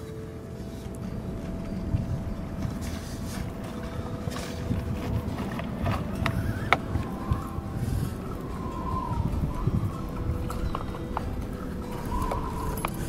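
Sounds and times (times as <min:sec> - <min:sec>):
faint steady hum: 0:00.0 - 0:13.0
low rumbling wind noise: 0:00.0 - 0:13.0.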